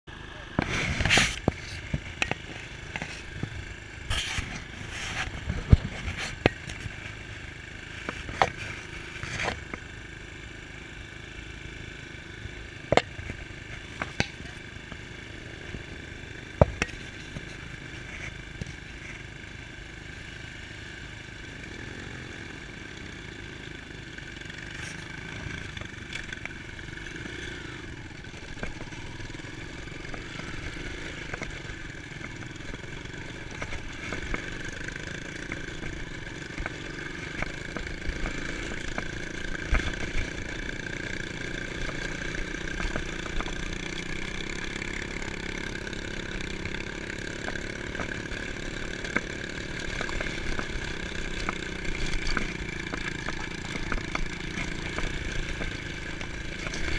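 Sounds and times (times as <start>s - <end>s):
dirt bike engine idling: 0.1s - 56.9s
second dirt bike engine: 0.1s - 56.9s.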